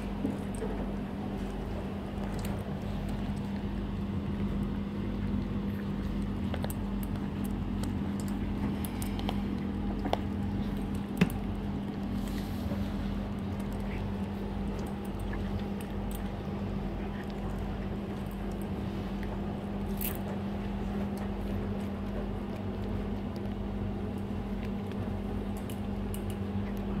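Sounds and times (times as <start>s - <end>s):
kibble crunching in steel bowls: 0.0s - 27.0s
steady low hum: 0.0s - 27.0s.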